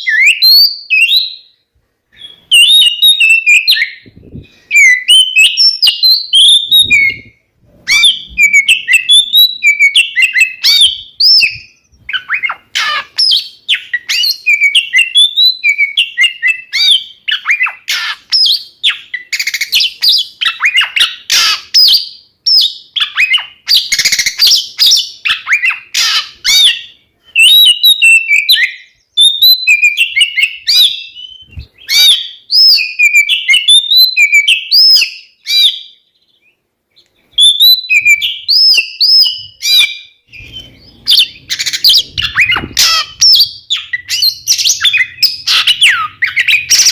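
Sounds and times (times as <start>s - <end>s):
bird singing whistled trills: 0.0s - 36.6s, 37.2s - 46.9s.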